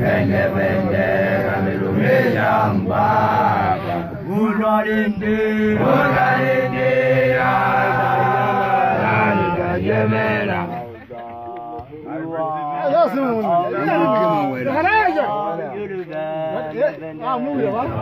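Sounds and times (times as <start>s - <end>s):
men chanting together: 0.0s - 16.7s.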